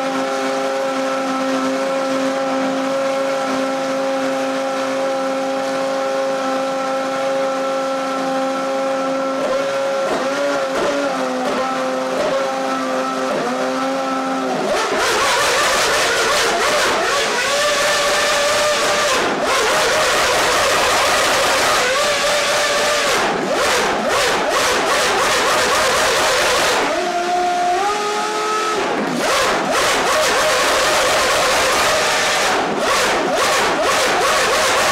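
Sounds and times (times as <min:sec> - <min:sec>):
racing engine revving: 0:00.0 - 0:34.9.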